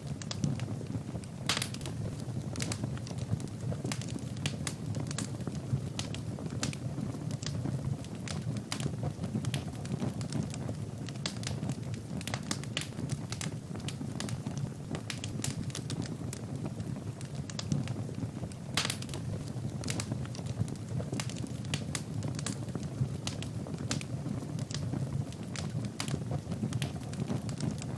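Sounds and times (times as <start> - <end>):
low rumble of flames: 0.0 - 27.9
wood fire crackling and popping: 0.0 - 27.9.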